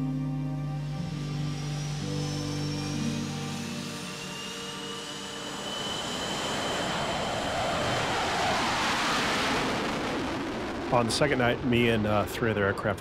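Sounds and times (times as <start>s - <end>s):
jet engine afterburner roar: 0.8s - 13.0s.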